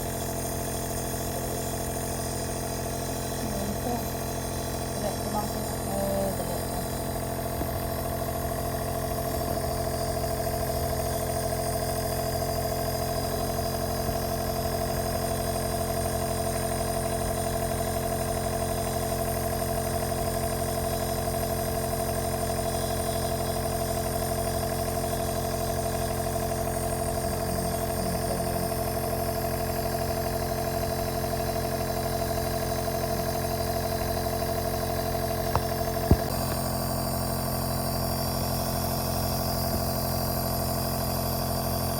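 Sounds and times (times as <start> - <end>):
nebulizer mechanical hum: 0.0 - 41.9.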